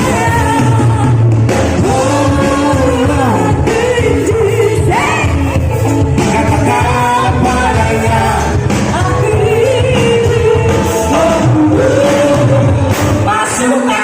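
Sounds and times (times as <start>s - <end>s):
person singing over backing track: 0.0s - 14.0s.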